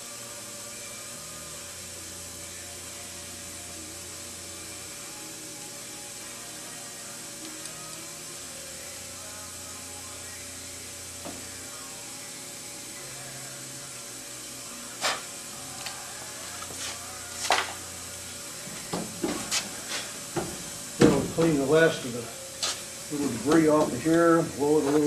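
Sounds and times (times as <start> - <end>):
low workshop background: 0.0 - 25.0.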